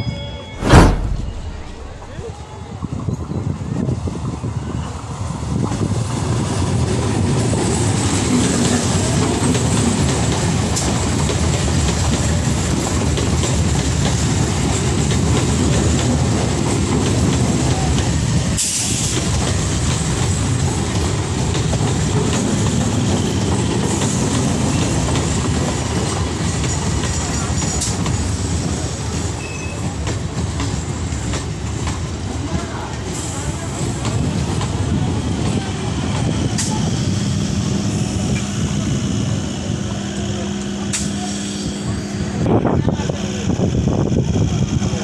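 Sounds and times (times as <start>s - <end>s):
train wheels rumbling and rattling: 0.6s - 45.0s.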